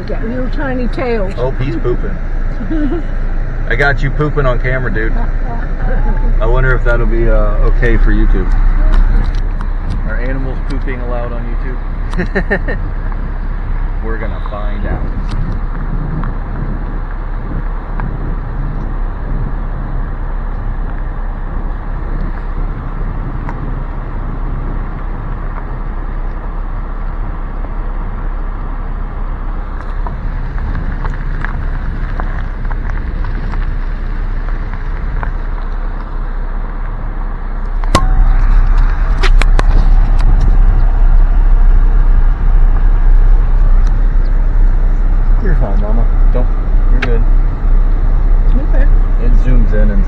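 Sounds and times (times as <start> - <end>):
car cabin rumble: 0.0 - 50.0.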